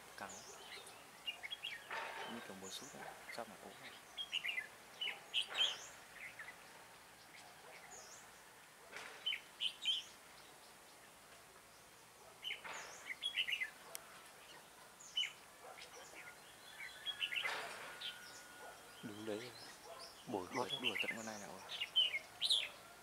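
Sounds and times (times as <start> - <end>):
bulbuls singing chirpy phrases: 0.0 - 8.4, 9.2 - 11.2, 11.8 - 23.0.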